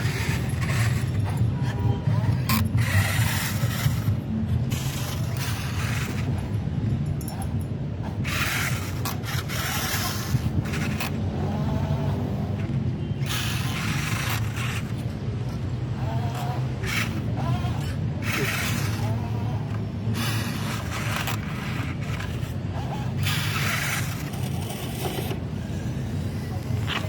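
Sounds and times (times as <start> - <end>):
heavy vehicle engine running: 0.0 - 27.0.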